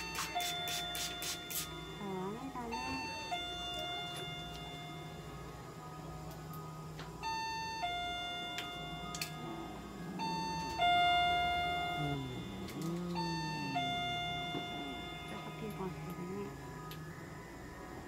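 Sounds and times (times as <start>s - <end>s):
electronic two-tone chime: 0.0s - 5.5s, 7.2s - 16.2s.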